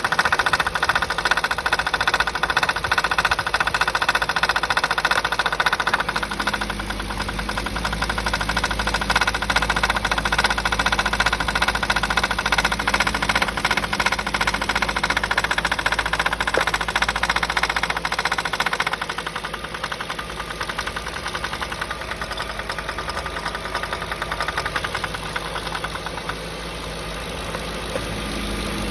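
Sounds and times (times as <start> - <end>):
engine idling with valvetrain rattle: 0.0 - 28.9.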